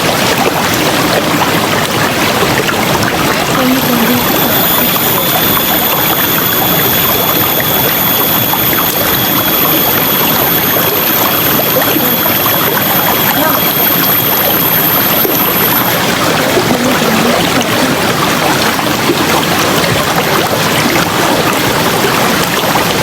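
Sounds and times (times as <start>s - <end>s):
river water flowing over rocks: 0.0s - 23.0s
water trickling: 0.0s - 23.0s.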